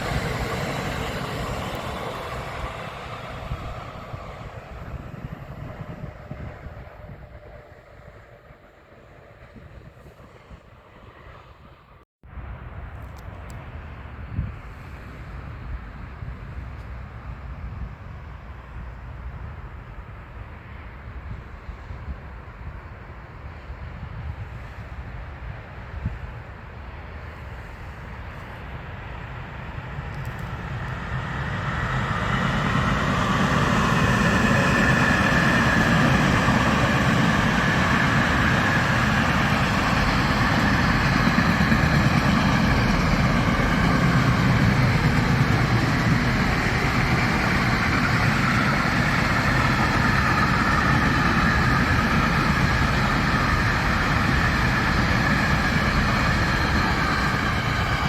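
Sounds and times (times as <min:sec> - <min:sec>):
train wheels rolling on rail: 0:00.0 - 0:11.6, 0:23.0 - 0:58.0.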